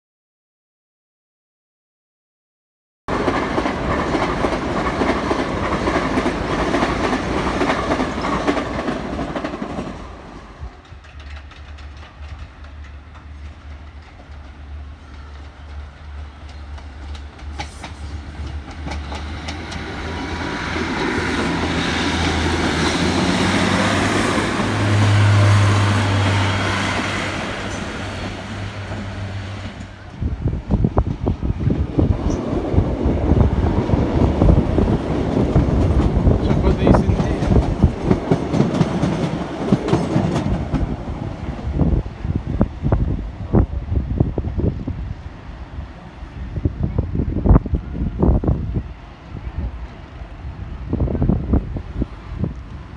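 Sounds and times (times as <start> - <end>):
train diesel engines droning: 3.2 - 52.9.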